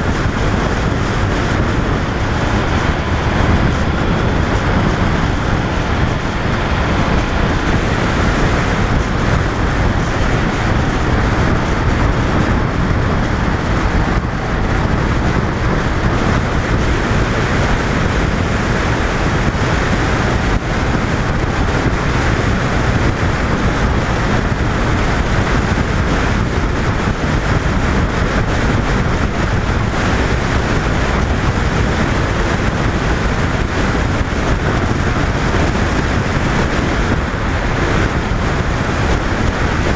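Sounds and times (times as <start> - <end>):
motorcycle engine and tyres: 0.0 - 39.9
wind rush on microphone: 0.0 - 39.9.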